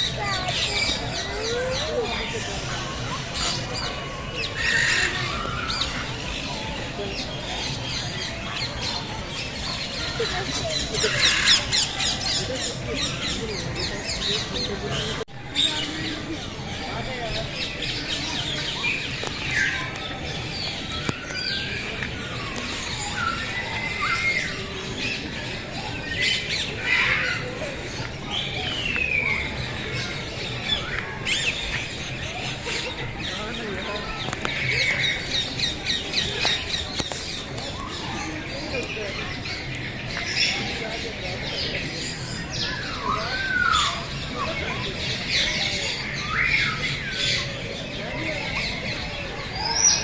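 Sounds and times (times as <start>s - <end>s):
caged birds chirping and squawking: 0.0s - 50.0s.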